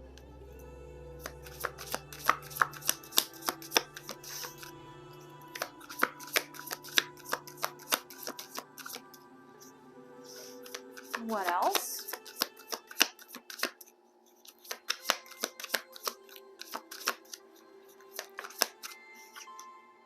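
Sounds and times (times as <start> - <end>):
soft background music: 0.0 - 20.0
cards being shuffled: 1.2 - 4.8, 5.5 - 9.2, 10.5 - 19.7.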